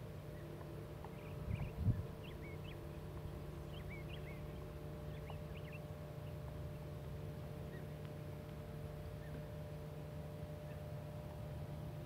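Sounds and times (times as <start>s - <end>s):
distant engine hum: 0.0s - 12.0s
small birds chirping: 0.2s - 9.7s, 10.6s - 10.9s.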